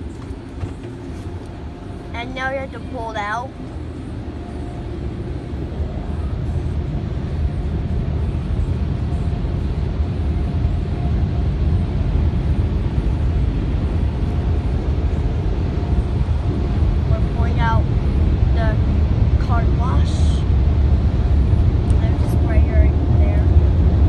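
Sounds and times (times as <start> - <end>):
car wash dryer blowers rushing: 0.0 - 24.0.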